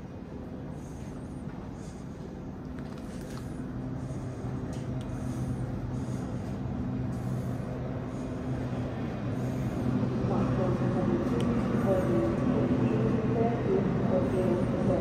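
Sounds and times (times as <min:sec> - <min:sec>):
idling trains drone: 0:00.0 - 0:15.0.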